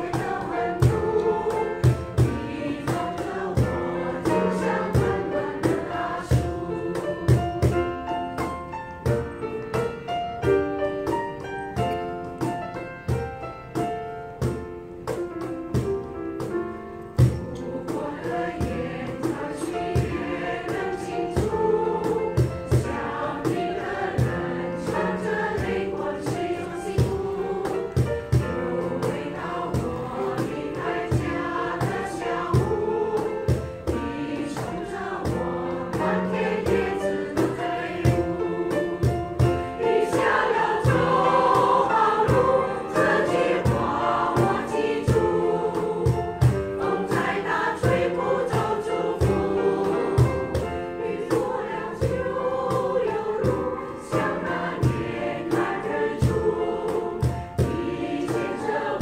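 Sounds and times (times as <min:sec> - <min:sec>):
mixed choir singing: 0:00.0 - 0:10.9, 0:16.4 - 0:59.0
cajon beat: 0:00.0 - 0:59.0
grand piano accompaniment: 0:00.0 - 0:59.0.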